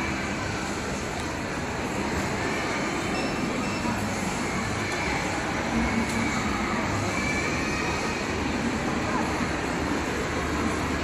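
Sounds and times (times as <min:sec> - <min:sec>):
murmur of distant voices: 0:00.0 - 0:11.0
shopping mall background noise: 0:00.0 - 0:11.0.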